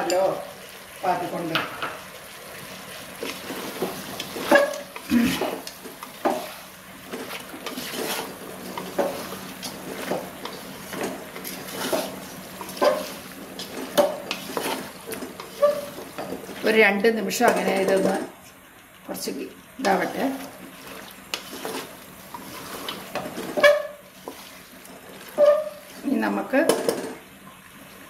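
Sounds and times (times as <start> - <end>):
wooden spatula scraping a pot: 3.0 - 18.2, 19.8 - 27.2.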